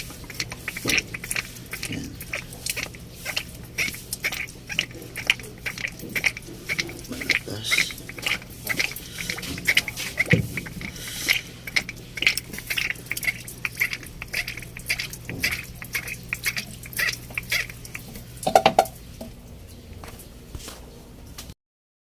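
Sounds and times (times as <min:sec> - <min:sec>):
steady low hum: 0:00.0 - 0:21.5.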